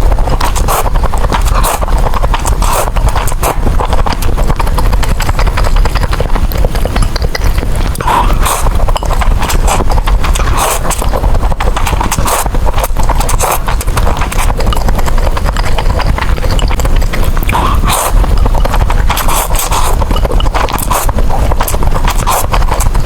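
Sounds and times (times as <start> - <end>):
noodles being chewed and slurped: 0.0 - 23.0.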